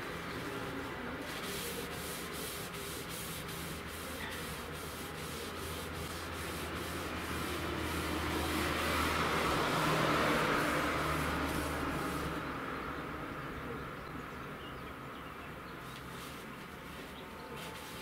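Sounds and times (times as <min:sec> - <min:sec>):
rubbing strokes on wood: 0:00.0 - 0:12.4, 0:15.9 - 0:18.0.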